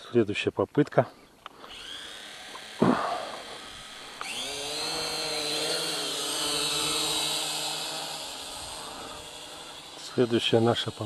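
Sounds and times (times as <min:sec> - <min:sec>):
drone motors whining: 0:01.4 - 0:11.0.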